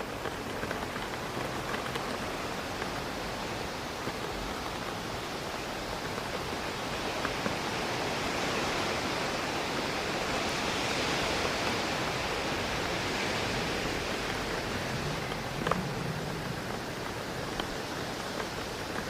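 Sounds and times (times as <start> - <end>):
rain against a window: 0.0 - 19.0
wind through trees: 0.0 - 19.0.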